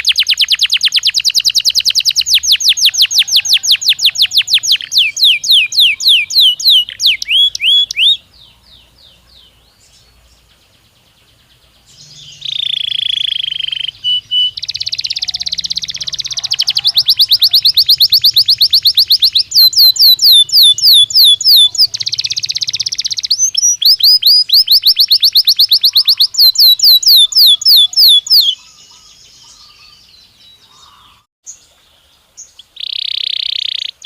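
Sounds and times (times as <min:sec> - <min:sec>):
canary singing: 0:00.0 - 0:31.6, 0:32.4 - 0:34.0.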